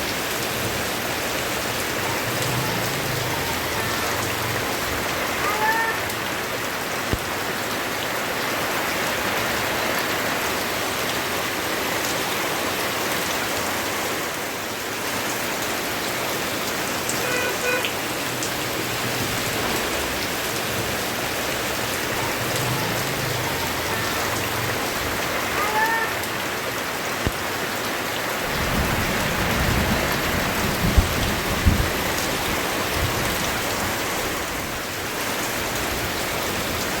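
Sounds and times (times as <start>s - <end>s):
dense rain pattering: 0.0s - 37.0s.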